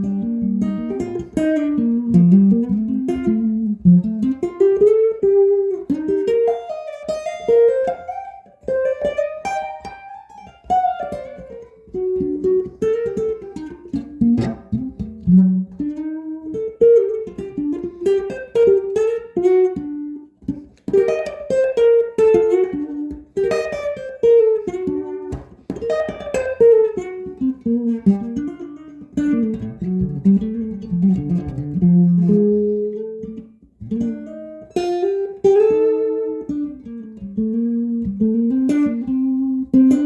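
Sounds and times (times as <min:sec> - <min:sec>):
electric guitar single-note melody: 0:00.0 - 0:40.0.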